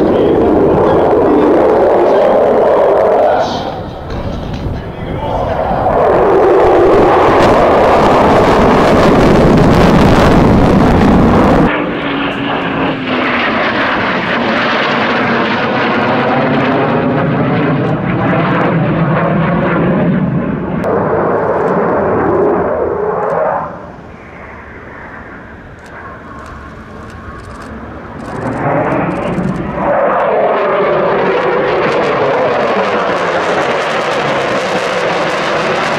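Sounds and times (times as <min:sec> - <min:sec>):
fighter jet engines roaring: 0:00.0 - 0:35.9.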